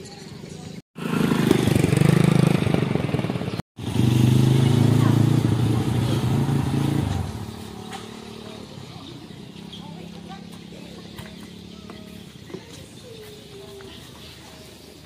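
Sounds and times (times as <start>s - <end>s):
motorcycle engine running: 1.0s - 14.3s.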